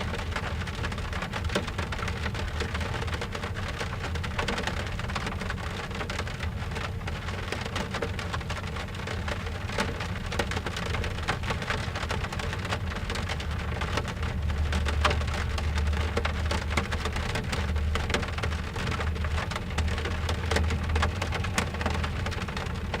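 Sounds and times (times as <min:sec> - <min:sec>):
rain drumming on car roof: 0:00.0 - 0:23.0.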